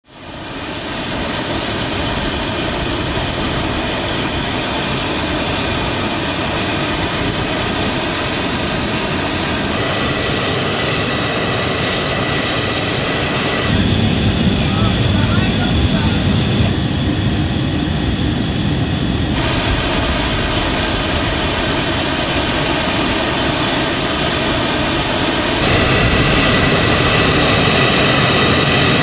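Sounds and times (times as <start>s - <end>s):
aircraft turbine whine: 0.0s - 29.0s.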